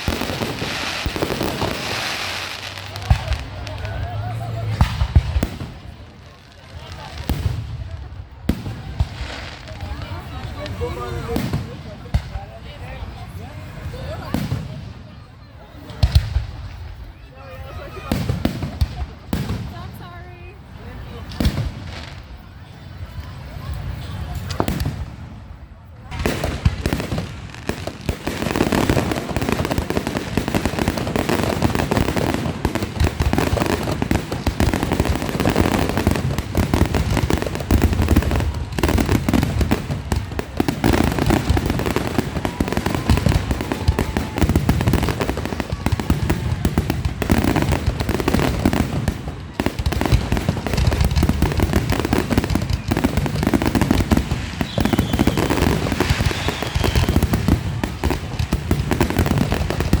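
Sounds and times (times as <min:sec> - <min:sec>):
fireworks bangs and crackles: 0:00.0 - 1:00.0.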